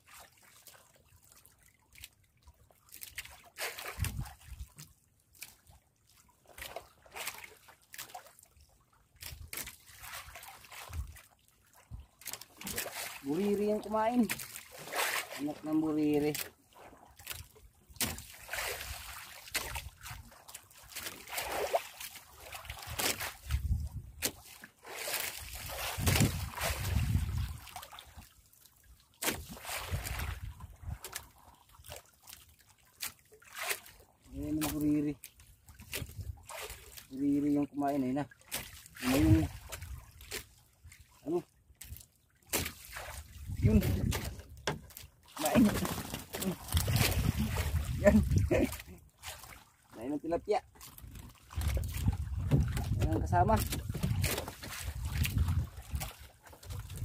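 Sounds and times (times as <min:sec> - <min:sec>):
water lapping against boat hull: 0:00.0 - 0:57.0.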